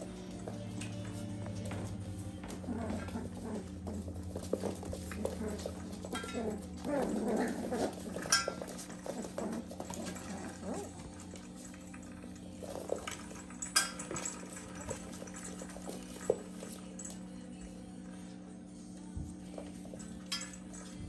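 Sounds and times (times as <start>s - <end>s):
puppy paws pattering on floor: 0.0s - 18.3s, 18.9s - 21.0s
steady low hum: 0.0s - 21.0s.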